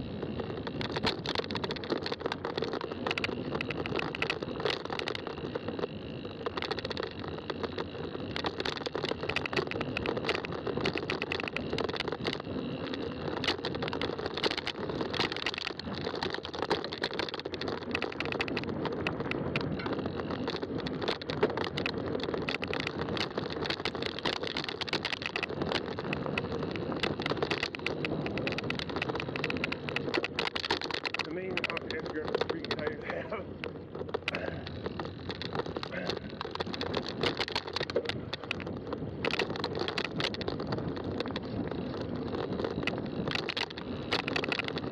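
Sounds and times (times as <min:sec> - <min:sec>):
bike clicks and rattles: 0:00.0 - 0:44.9
bike tyre rumble on trail: 0:00.0 - 0:44.9.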